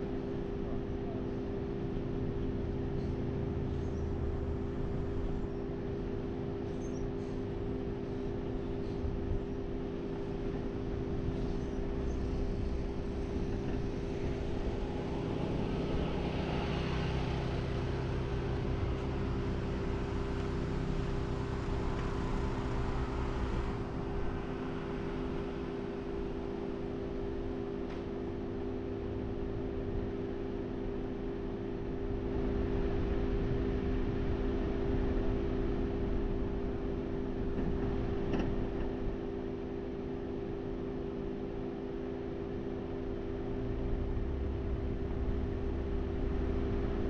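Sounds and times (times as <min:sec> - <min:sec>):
vehicle engine rumble: 0:00.0 - 0:47.0.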